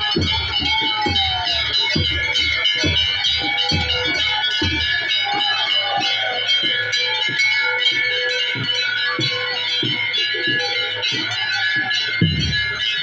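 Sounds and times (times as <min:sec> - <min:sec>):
bell-like tones: 0:00.0 - 0:13.0
steady drumbeat: 0:00.0 - 0:13.0.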